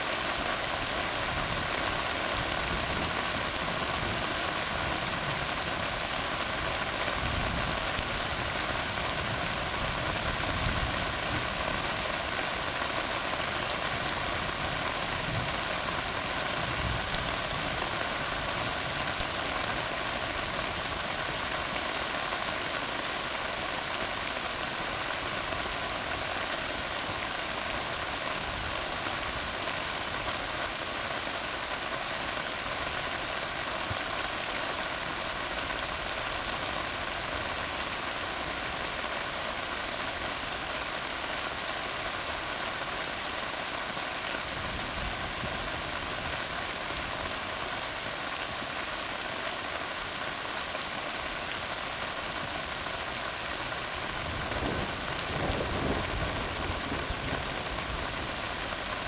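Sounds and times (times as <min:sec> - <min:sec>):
rain hissing on road: 0:00.0 - 0:59.0.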